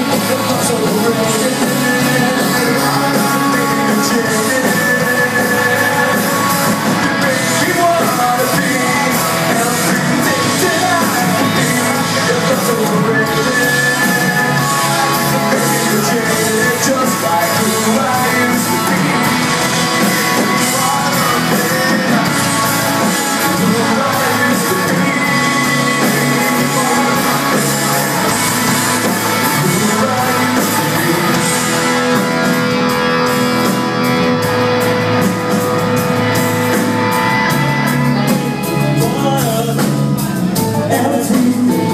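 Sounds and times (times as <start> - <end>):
person singing: 0.0 - 34.6, 36.4 - 41.9
live rock band playing: 0.0 - 41.9.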